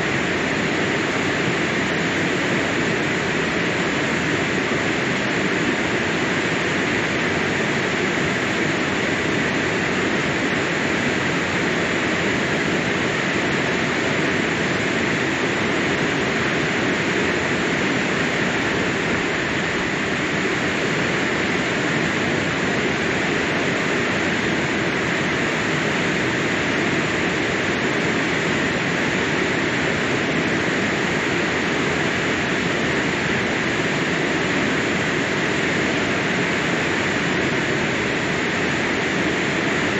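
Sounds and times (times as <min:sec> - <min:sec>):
water rushing over dam: 0:00.0 - 0:39.9.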